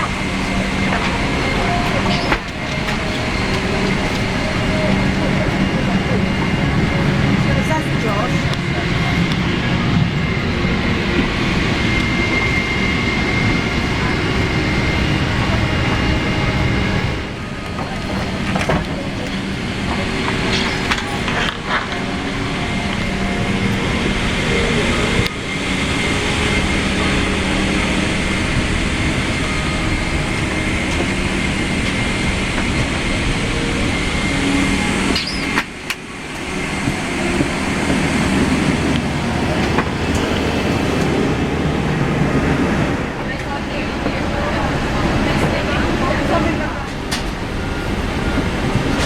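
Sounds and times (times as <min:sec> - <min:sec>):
air-conditioning drone: 0:00.0 - 0:49.0
thin steady whine: 0:00.0 - 0:49.0.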